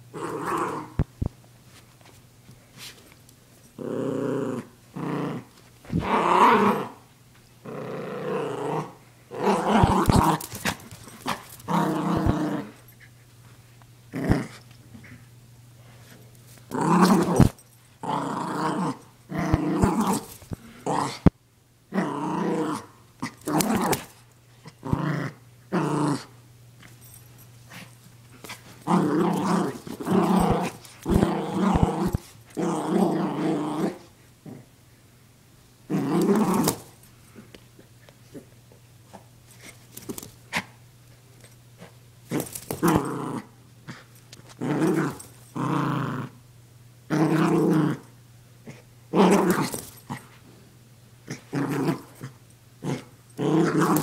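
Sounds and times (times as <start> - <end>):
puppy play-growling: 0.1 - 1.2, 3.7 - 13.2, 14.1 - 15.3, 15.9 - 21.3, 21.9 - 34.8, 35.9 - 40.8, 41.4 - 46.4, 47.1 - 50.6, 51.2 - 54.0.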